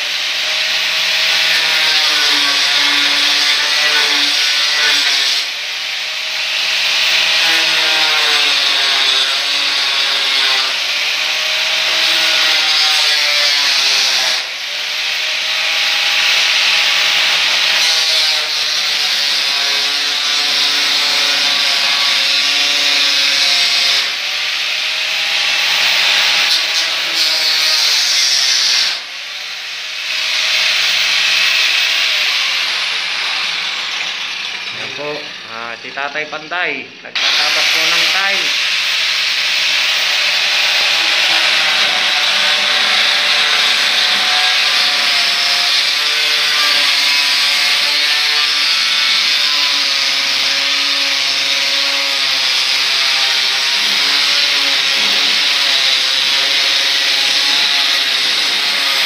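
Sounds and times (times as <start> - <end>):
angle grinder cutting tiles: 0.0 - 36.5, 37.1 - 59.0.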